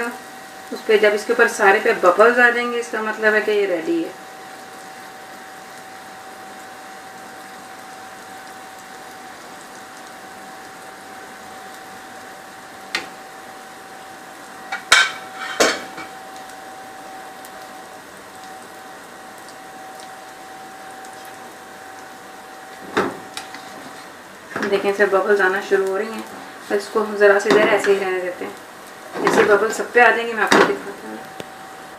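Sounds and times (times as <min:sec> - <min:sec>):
soft cooking hiss: 0:00.0 - 0:31.9.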